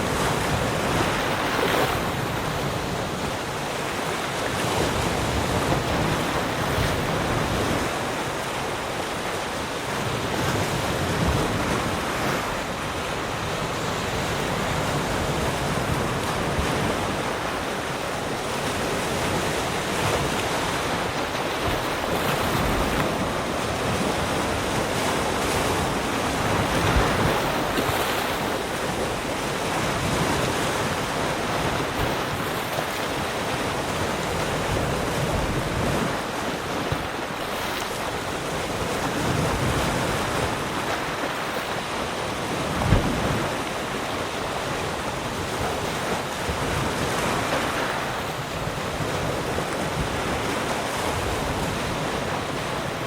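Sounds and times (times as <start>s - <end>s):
ocean waves washing onto shore: 0.0s - 53.0s.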